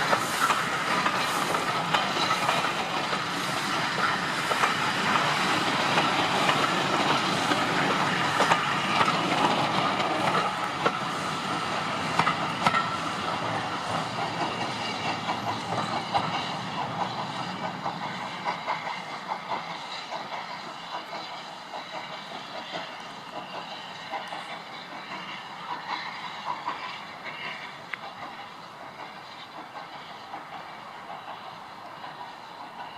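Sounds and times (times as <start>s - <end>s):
train wheels clacking on rails: 0.0s - 32.9s.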